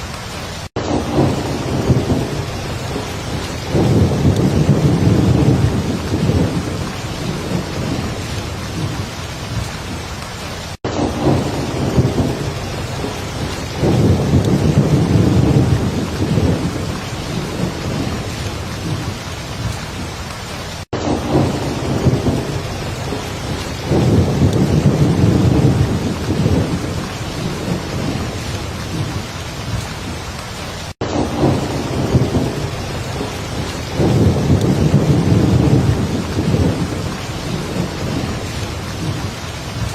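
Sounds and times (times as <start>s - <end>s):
heavy rain falling: 0.0s - 39.9s
low thunder rumbling: 0.8s - 39.9s.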